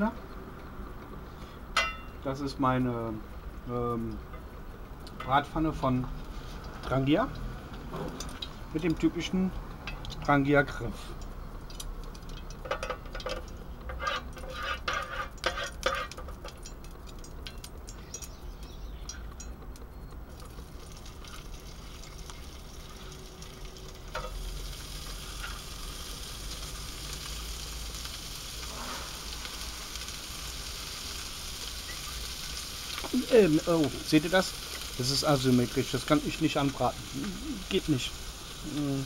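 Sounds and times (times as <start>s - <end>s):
sausage sizzling in frying pan: 0.9s - 39.0s.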